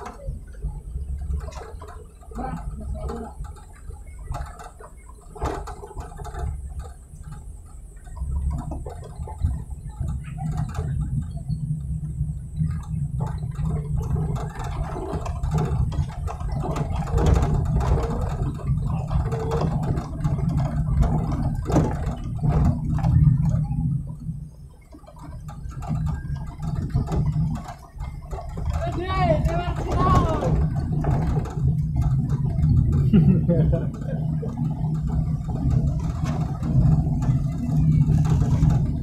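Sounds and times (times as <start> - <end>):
car engine and road rumble: 0.0 - 39.0
knocks and rattles: 0.0 - 39.0.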